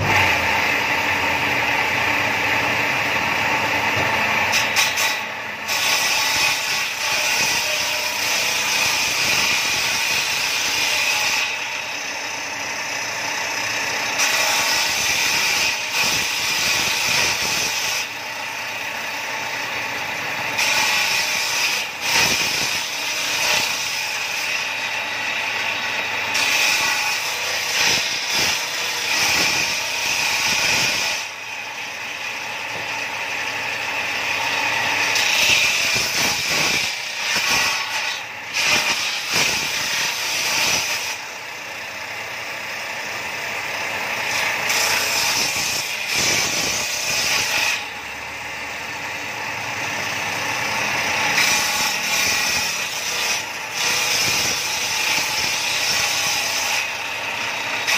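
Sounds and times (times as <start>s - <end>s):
circular saw cutting wood: 0.0s - 57.9s.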